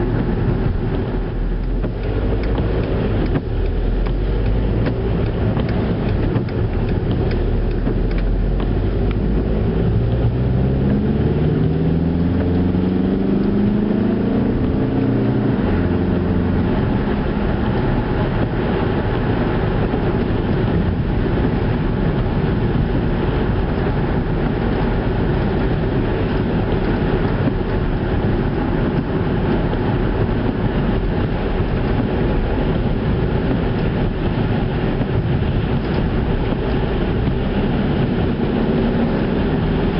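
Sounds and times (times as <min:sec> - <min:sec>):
car engine running: 0:00.0 - 0:39.9
tyre noise on road: 0:00.0 - 0:39.9.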